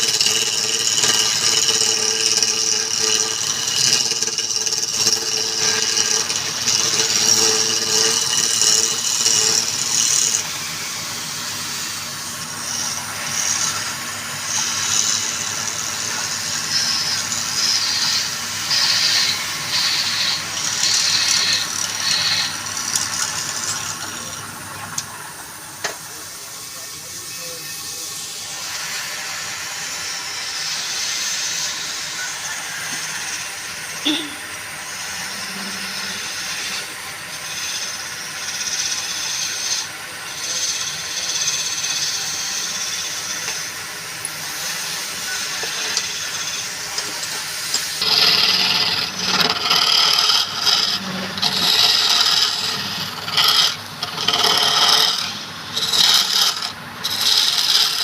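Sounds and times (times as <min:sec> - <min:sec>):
lathe tool scraping wood: 0:00.0 - 0:25.2, 0:27.7 - 0:58.0.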